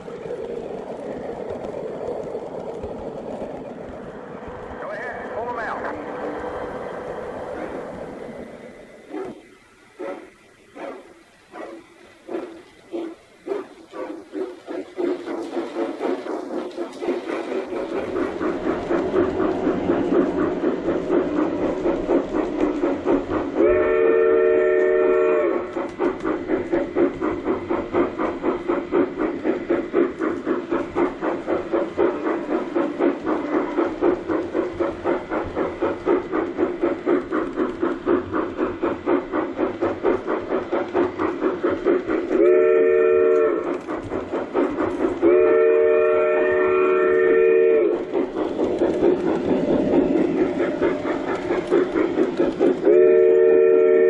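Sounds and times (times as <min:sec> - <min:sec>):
model steam locomotive chuffing: 0:00.0 - 0:54.0.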